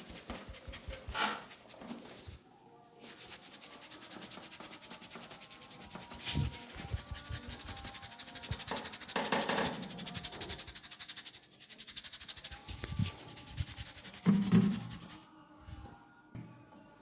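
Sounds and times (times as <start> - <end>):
fingers rubbing hair and scalp: 0.0 - 2.4, 3.0 - 15.2.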